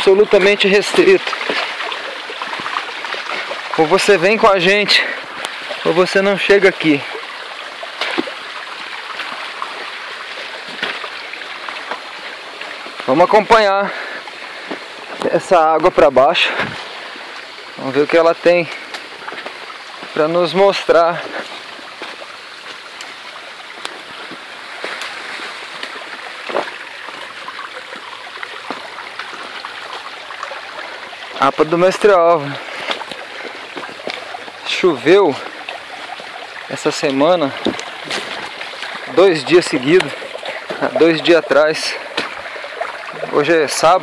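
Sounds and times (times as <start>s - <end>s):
stream running over rocks: 0.0s - 44.0s.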